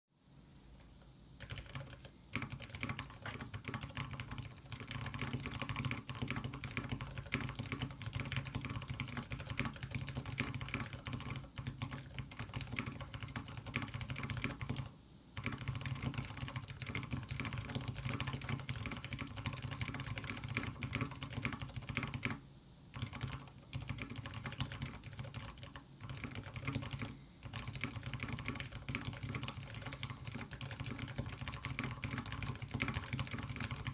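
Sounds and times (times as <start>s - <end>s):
mechanical keyboard typing: 1.4s - 33.9s.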